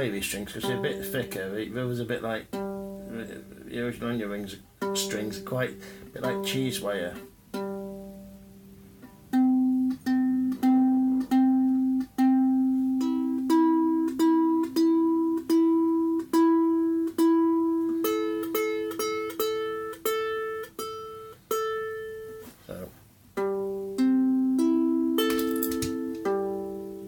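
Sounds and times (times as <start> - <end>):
ukulele plucked melody: 0.0 - 22.5, 23.3 - 27.0.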